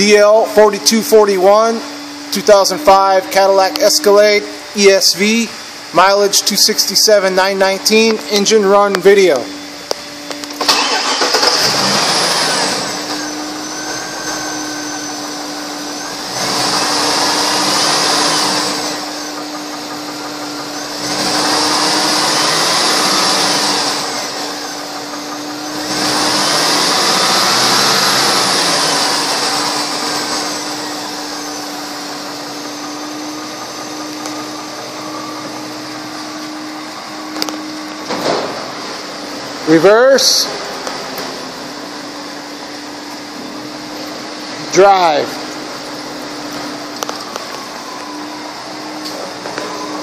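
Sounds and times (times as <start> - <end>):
engine idling and revving: 9.5 - 50.0.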